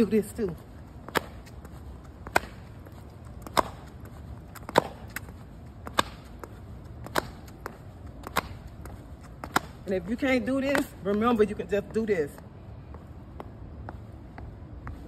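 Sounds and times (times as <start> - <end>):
sneakers tapping on asphalt: 0.0 - 15.0.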